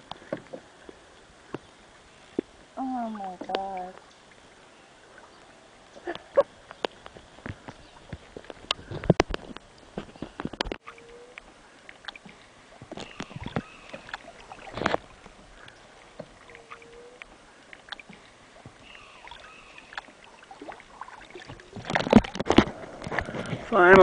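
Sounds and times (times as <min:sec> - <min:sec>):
paddles dipping in water: 0:00.0 - 0:24.0
water splashes: 0:00.0 - 0:24.0.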